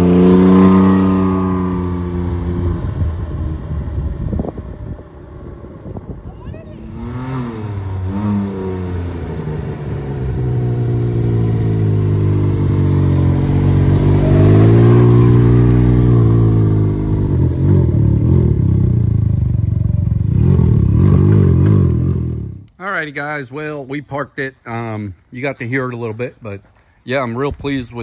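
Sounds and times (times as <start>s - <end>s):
three-wheeler engine accelerating: 0.0s - 22.7s.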